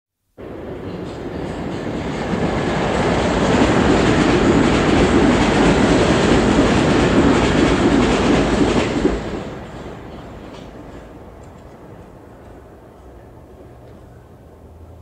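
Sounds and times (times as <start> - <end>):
train wheels rumbling on rails: 0.4 - 15.0.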